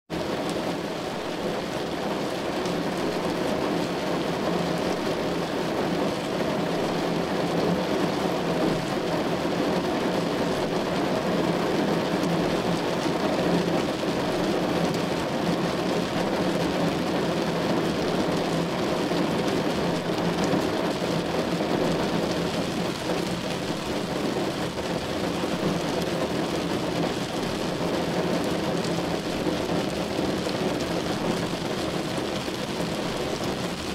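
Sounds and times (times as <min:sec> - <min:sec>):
heavy rain on a car: 0:00.1 - 0:33.9.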